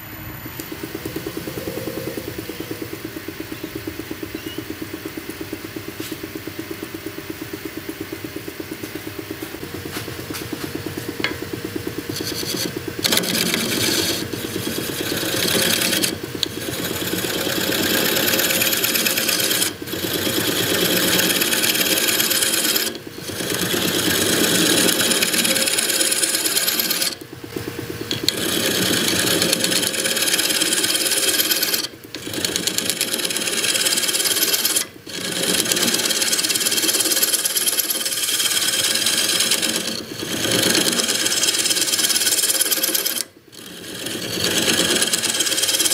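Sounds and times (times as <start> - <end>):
lathe tool scraping wood: 0.6 - 45.9.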